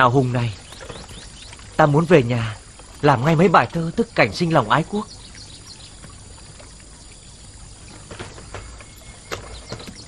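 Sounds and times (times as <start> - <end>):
soft outdoor hiss: 0.0 - 10.0.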